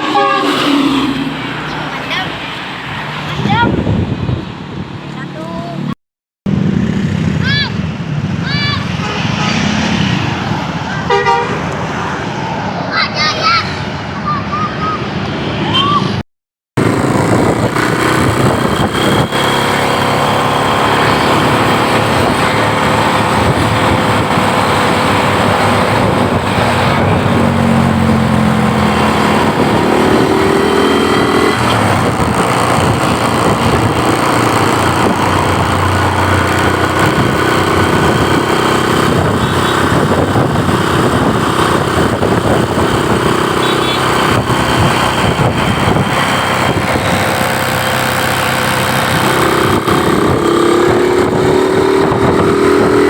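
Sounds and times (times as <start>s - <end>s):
vehicle engines in traffic: 0.0s - 16.2s, 16.8s - 53.0s.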